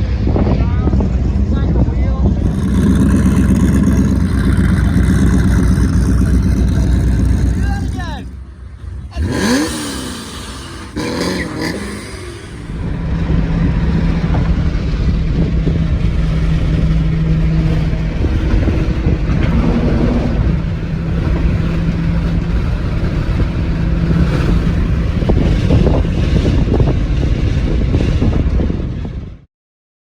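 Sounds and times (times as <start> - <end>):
car engine drone: 0.0 - 29.5
road rumble: 0.0 - 29.5
wind buffeting microphone: 0.0 - 29.5.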